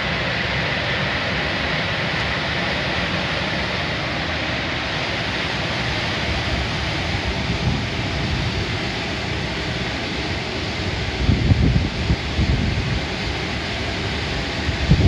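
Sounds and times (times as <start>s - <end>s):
air conditioner fans rushing: 0.0s - 15.0s.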